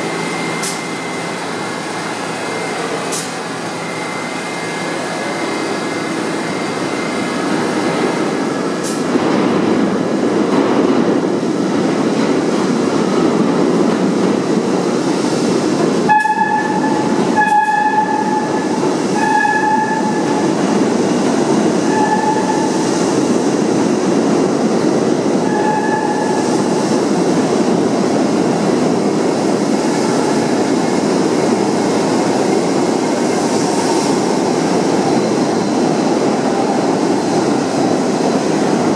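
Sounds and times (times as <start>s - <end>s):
subway train wheels rumbling: 0.0s - 38.9s.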